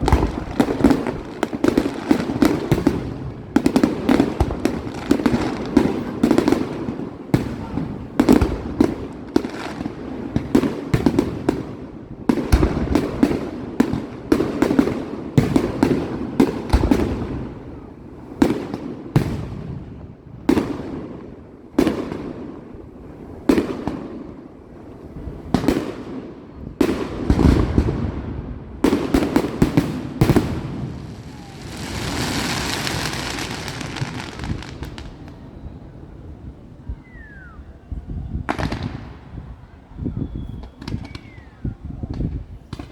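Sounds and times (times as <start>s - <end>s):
fireworks bangs: 0.0s - 24.4s, 25.1s - 37.5s, 38.3s - 42.9s.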